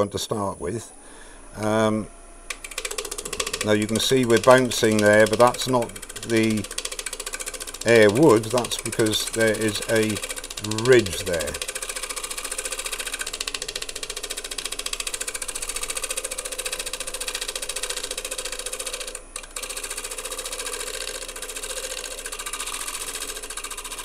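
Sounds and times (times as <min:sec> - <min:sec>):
scraper chattering on spinning wood: 0:02.5 - 0:24.0.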